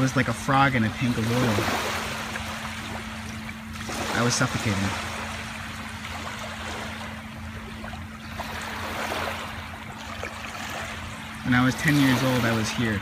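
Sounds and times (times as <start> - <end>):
small waves lapping on shore: 0.0 - 13.0
steady low hum: 0.0 - 13.0.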